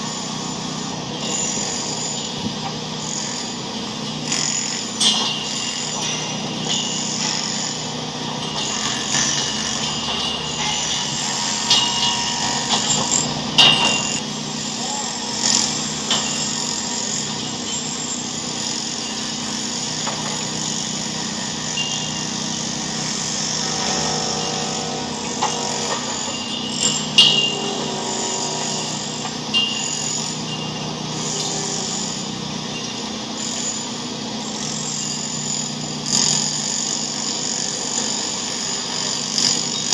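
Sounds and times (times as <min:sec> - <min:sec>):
mechanical hum and hiss: 0:00.0 - 0:39.9.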